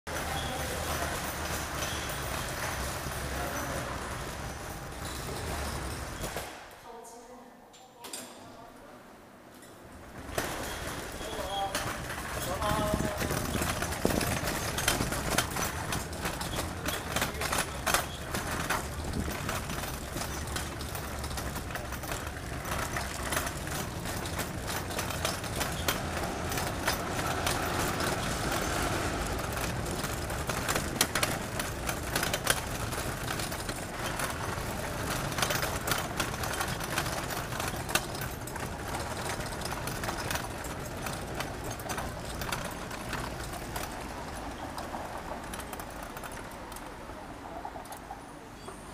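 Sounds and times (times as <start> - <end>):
city traffic: 0.1 - 6.7, 9.8 - 48.9.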